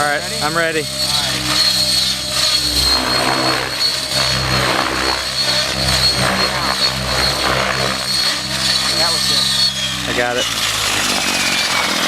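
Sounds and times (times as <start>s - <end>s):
high motor whine: 0.0s - 12.0s
whoosh of rotor blades: 0.0s - 12.0s.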